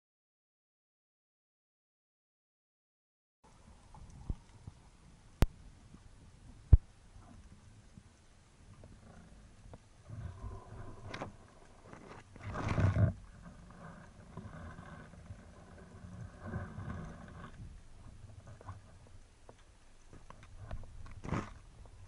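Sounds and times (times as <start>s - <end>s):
low hum: 3.4s - 22.0s.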